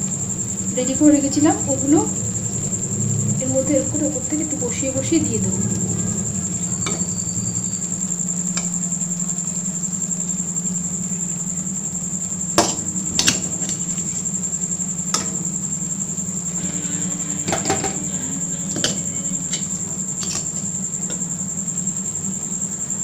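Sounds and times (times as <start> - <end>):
low hum: 0.0 - 21.8
thin high-pitched whine: 0.0 - 23.0.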